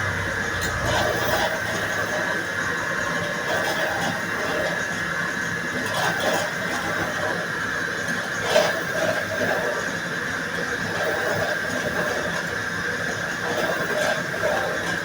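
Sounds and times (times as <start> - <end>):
slicing machine whine: 0.0 - 15.0.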